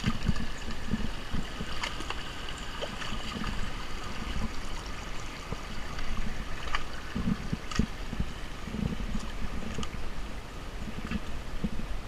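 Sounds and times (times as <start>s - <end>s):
brook trickling over stones: 0.0s - 11.4s
feet wading through water: 0.0s - 12.0s.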